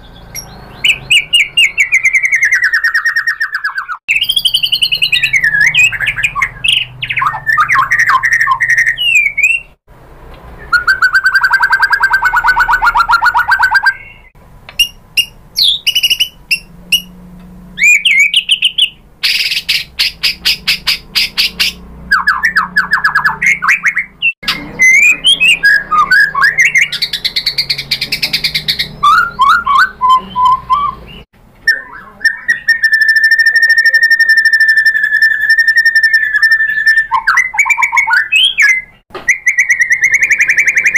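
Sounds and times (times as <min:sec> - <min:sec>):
bird singing varied song: 0:00.0 - 0:09.8, 0:10.6 - 0:17.2, 0:17.8 - 0:40.9.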